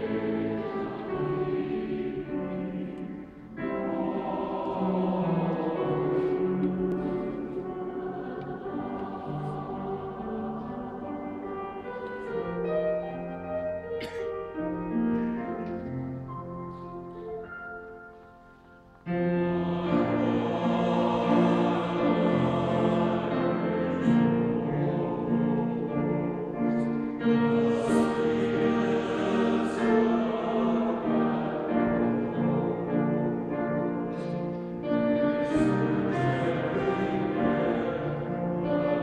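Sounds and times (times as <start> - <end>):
choir singing in a cathedral: 0.0 - 39.0.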